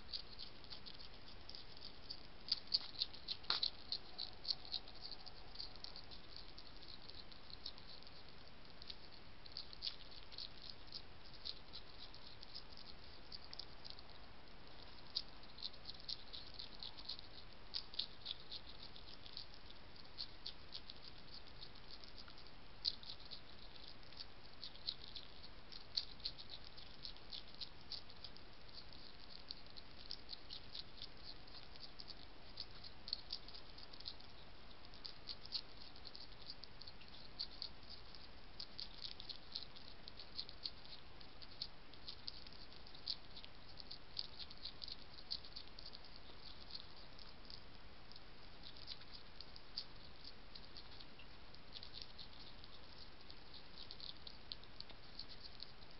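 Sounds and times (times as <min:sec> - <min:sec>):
faint hiss: 0:00.0 - 0:55.9
hedgehog chewing and crunching food: 0:00.0 - 0:55.9.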